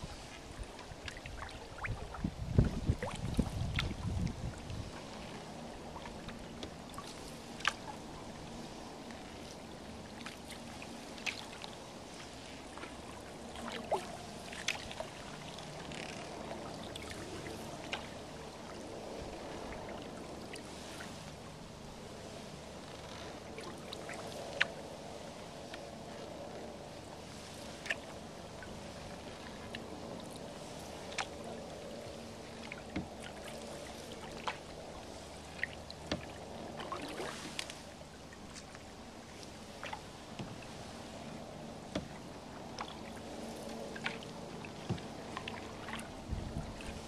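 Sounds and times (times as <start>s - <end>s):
paddle splashing water: 0.0s - 47.0s.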